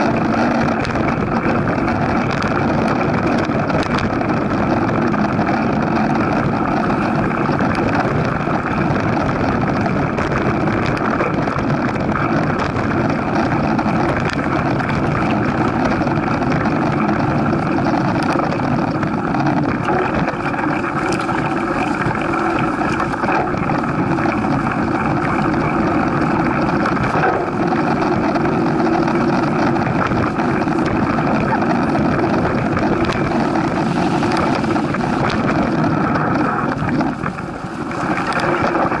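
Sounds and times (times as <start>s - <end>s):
bike tyres crunching on gravel: 0.0s - 39.0s
wind on microphone: 0.0s - 39.0s.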